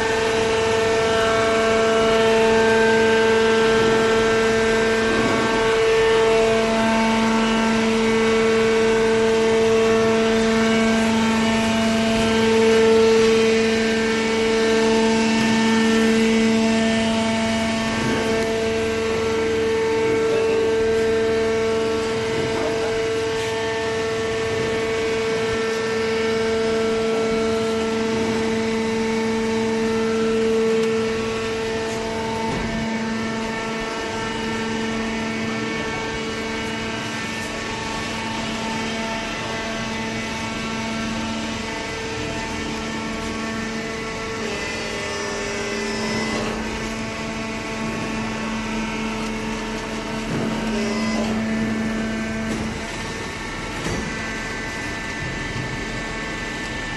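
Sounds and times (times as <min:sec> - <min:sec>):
hydraulic power unit humming: 0:00.0 - 0:56.9.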